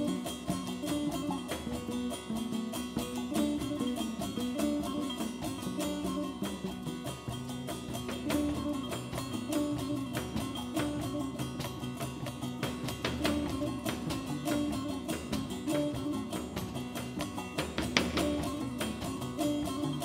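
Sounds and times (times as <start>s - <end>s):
drum kit with cymbals: 0.0s - 20.0s
plucked lute melody: 0.0s - 20.0s
plucked upright double bass: 0.0s - 20.0s.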